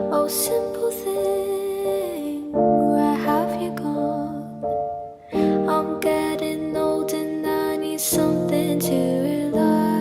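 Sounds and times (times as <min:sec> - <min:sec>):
soft slow lullaby-like music: 0:00.0 - 0:10.0.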